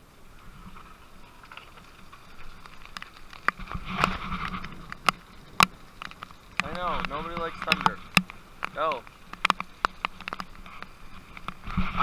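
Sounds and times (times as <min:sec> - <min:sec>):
rain falling: 0:00.0 - 0:12.0
sharp clicks and knocks: 0:01.4 - 0:12.0.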